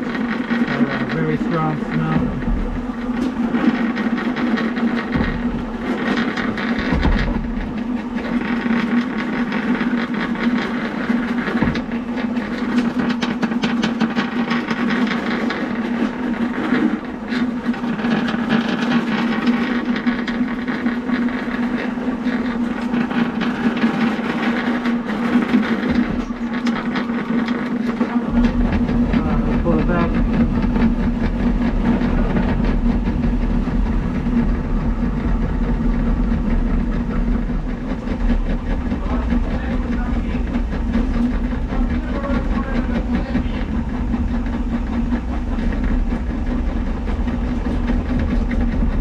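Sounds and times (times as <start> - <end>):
drain-snake motor humming: 0.0 - 49.0
spinning cable rattling: 0.0 - 49.0.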